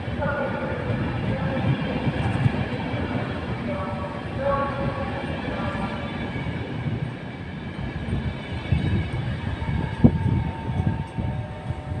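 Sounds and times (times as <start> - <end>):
train wheels rumbling and knocking: 0.0 - 12.0.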